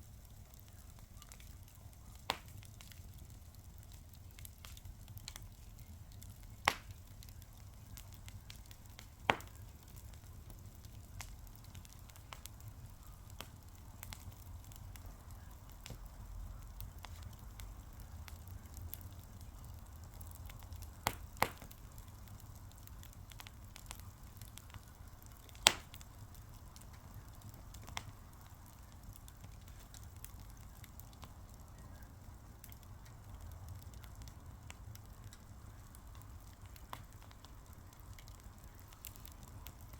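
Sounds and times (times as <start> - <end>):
wood fire crackling: 0.0 - 39.9
fire popping sharply: 0.2 - 39.9.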